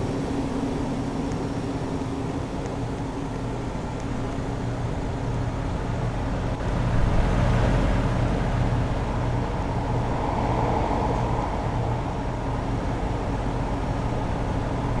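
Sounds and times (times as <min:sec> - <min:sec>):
air conditioner unit humming: 0:00.0 - 0:15.0.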